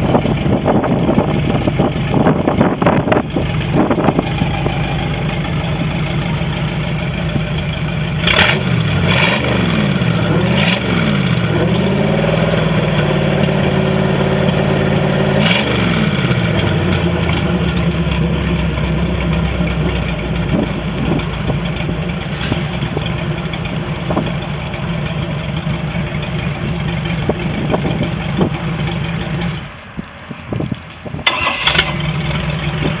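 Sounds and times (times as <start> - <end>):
boat engine idling: 0.0 - 9.1, 9.7 - 33.0.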